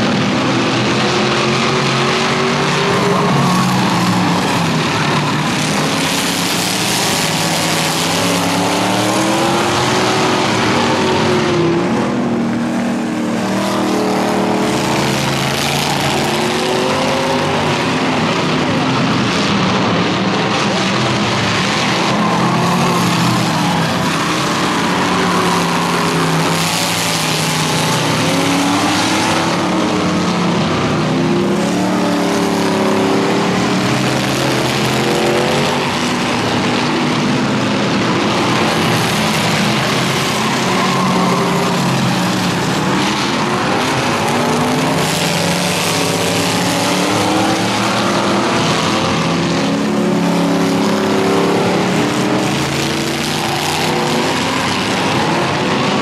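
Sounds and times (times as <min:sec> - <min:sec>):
racing car engines: 0:00.0 - 0:56.0.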